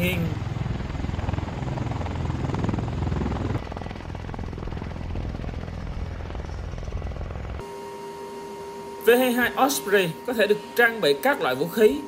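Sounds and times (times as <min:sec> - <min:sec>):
turbine engine noise: 0:00.0 - 0:12.0.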